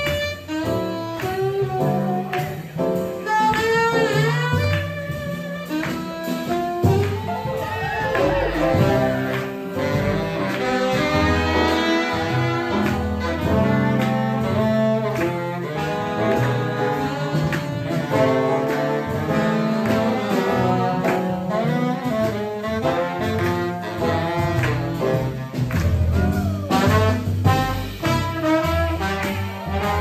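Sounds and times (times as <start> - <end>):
saxophone melody: 0.0 - 30.0
swing jazz band playing: 0.0 - 30.0.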